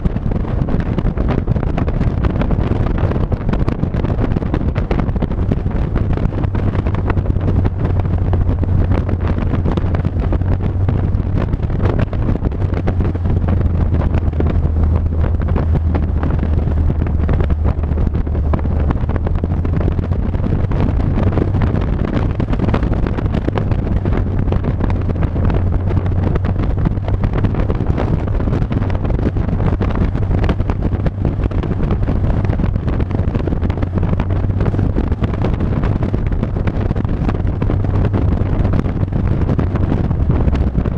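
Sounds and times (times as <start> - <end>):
vehicle engine drone: 0.0 - 40.9
wind buffeting microphone: 0.0 - 40.9.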